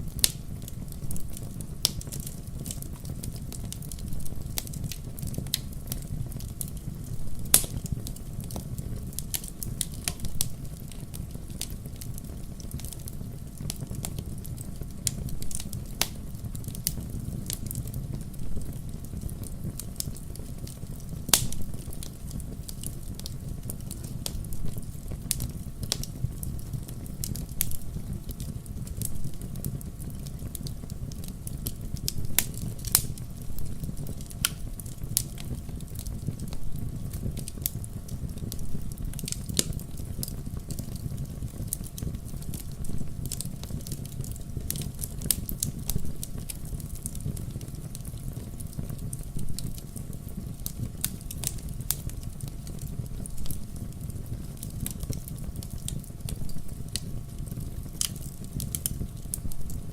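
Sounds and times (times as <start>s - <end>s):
fire crackles and pops: 0.0s - 59.9s
low rumble of flame: 0.0s - 59.9s.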